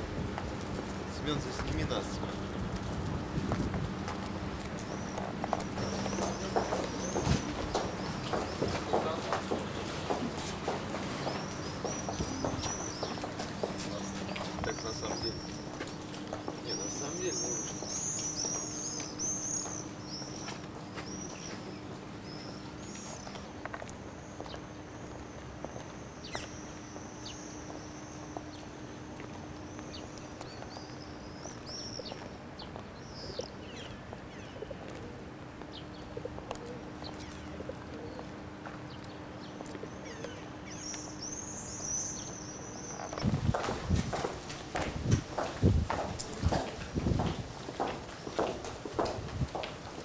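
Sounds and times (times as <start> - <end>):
small birds chirping: 4.2 - 49.6.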